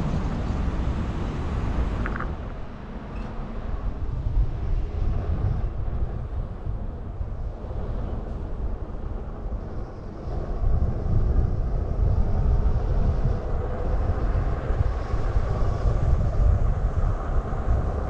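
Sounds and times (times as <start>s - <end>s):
road rumble: 0.0s - 18.0s
wind buffeting microphone: 0.0s - 18.0s.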